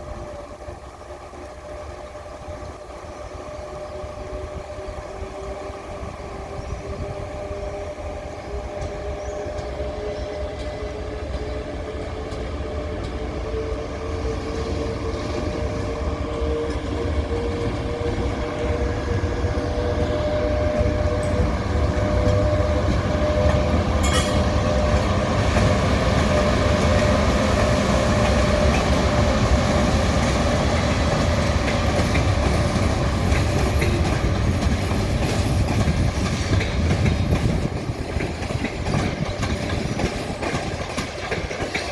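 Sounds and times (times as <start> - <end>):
electric locomotive whine: 0.0 - 41.9
low train rumble: 0.0 - 41.9
clatter of train wheels: 6.5 - 41.9.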